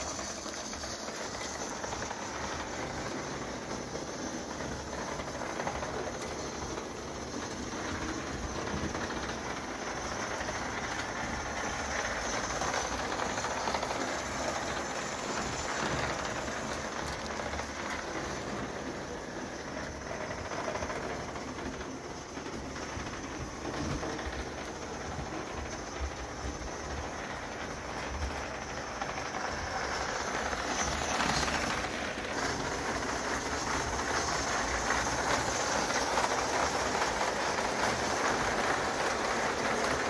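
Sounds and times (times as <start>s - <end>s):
steam hissing: 0.0s - 40.0s
wheels clattering on rails: 0.0s - 40.0s.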